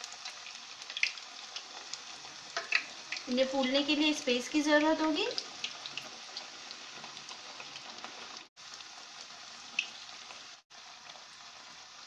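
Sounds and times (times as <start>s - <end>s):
oil sizzling with crackles: 0.0s - 12.0s.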